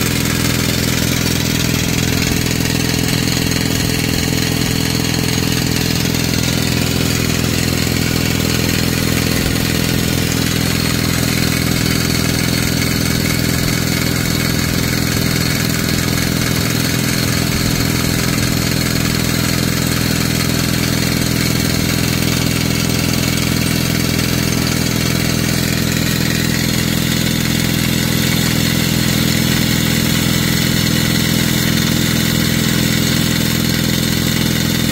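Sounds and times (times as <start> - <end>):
pneumatic rock drill hammering: 0.0 - 34.9.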